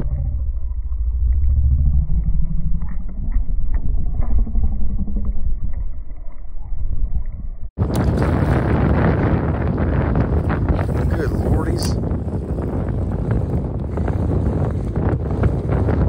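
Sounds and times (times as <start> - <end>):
motor rumbling: 0.0 - 16.0.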